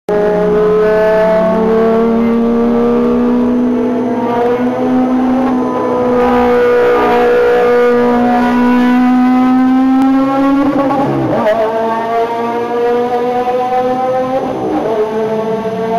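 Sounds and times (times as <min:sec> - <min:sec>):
race car engine: 0:00.1 - 0:15.9.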